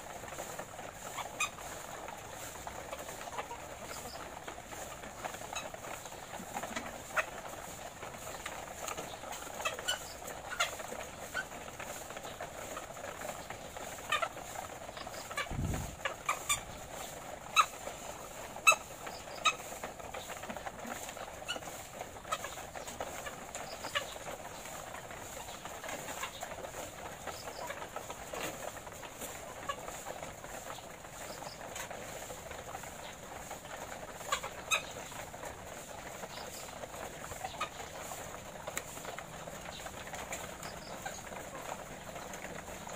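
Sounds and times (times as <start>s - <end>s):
hens clucking: 0.0s - 42.9s
clicks and taps from cages: 0.1s - 42.9s.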